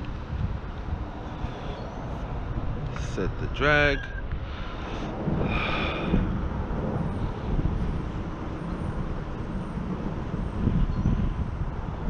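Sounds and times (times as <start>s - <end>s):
traffic rumble on bridge: 0.0s - 12.0s.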